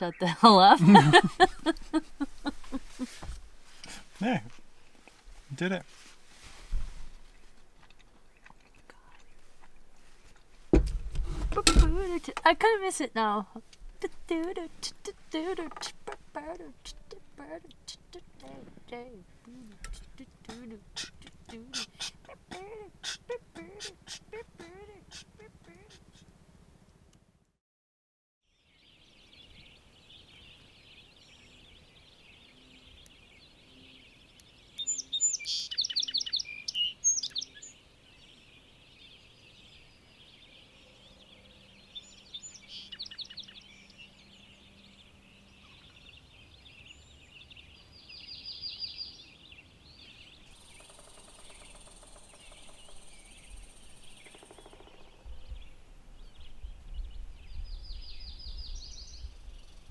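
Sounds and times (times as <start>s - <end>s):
songbirds singing: 0.0s - 5.7s, 7.2s - 26.3s, 28.4s - 59.9s.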